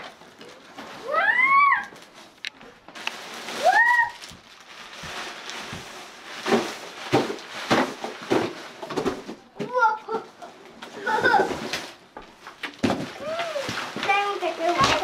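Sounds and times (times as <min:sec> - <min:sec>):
plastic and fabric rustling: 0:00.0 - 0:15.0.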